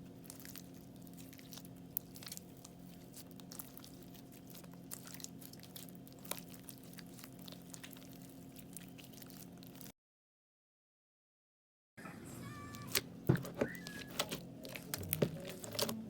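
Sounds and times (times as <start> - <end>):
crunchy slime crackling: 0.0 - 9.9, 12.4 - 16.0.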